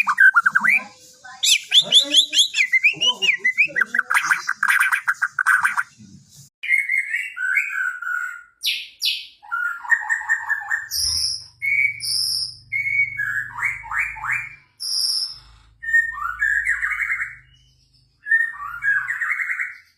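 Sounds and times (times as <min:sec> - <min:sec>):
bird singing chattering song: 0:00.0 - 0:19.9.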